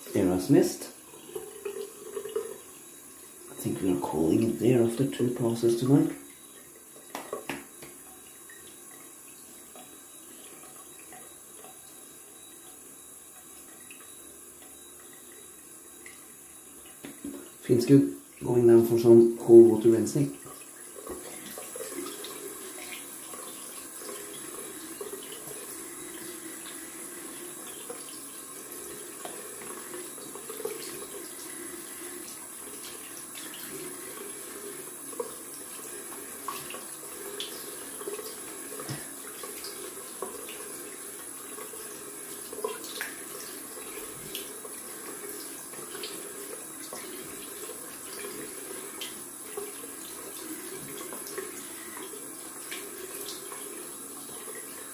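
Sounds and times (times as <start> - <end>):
sink tap running: 0.0 - 54.9.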